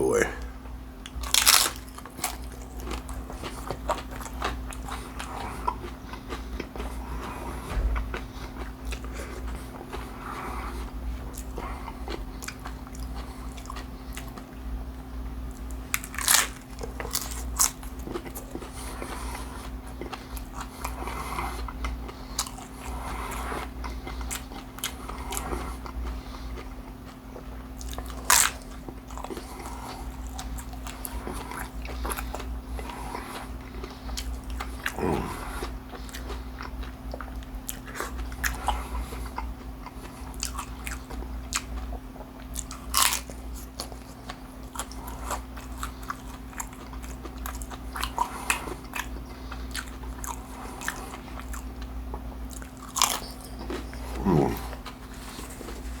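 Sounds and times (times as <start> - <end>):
crunching and chewing food: 0.0 - 56.0
steady low hum: 0.0 - 56.0.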